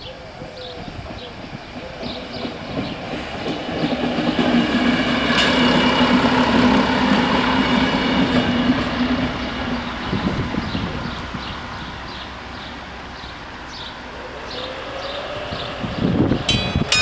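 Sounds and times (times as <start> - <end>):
railcar engine hum: 0.0 - 17.0
train wheel noise: 0.4 - 17.0.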